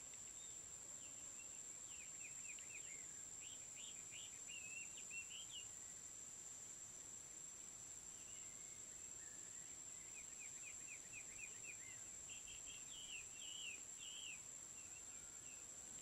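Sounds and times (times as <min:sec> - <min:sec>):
insects droning: 0:00.0 - 0:16.0
bird song: 0:00.2 - 0:05.7, 0:08.1 - 0:15.7.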